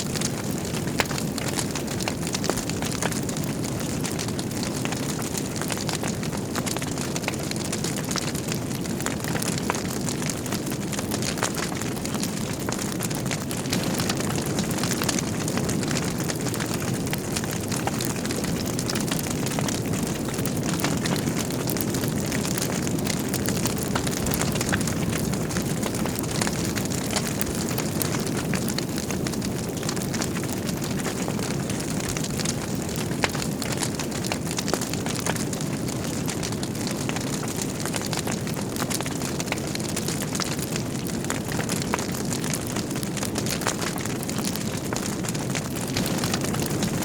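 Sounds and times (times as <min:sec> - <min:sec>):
burning logs crackling: 0:00.0 - 0:47.0
fire flames rumbling: 0:00.0 - 0:47.0.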